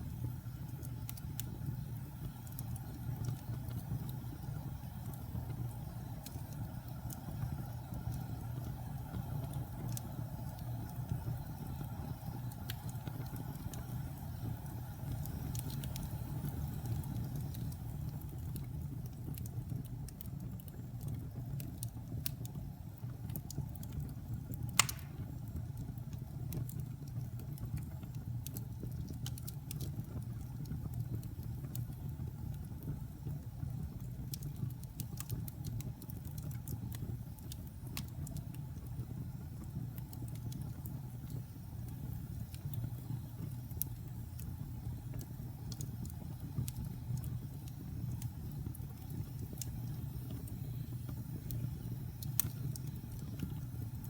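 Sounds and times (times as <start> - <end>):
fire crackles: 0.0 - 54.0
wood fire rumbling: 0.0 - 54.0.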